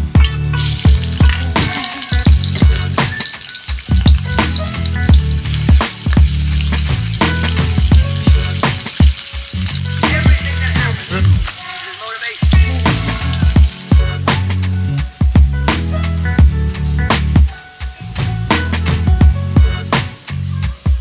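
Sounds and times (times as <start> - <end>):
background music with beat: 0.0 - 21.0
onions sizzling in hot oil: 0.2 - 15.2, 16.2 - 21.0.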